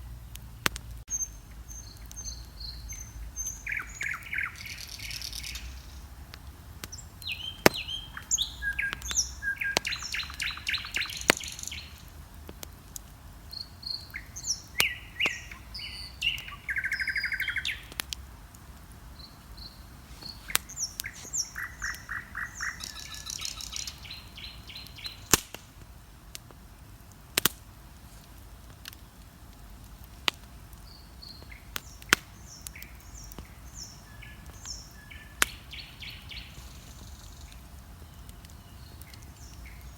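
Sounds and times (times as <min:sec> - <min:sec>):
bonfire crackling: 0:00.0 - 0:39.9
fire sharp pops: 0:00.2 - 0:01.2, 0:03.5 - 0:39.9
songbirds whistling and trilling: 0:00.6 - 0:06.2, 0:06.8 - 0:12.1, 0:13.4 - 0:18.2, 0:19.1 - 0:25.5, 0:29.8 - 0:39.9.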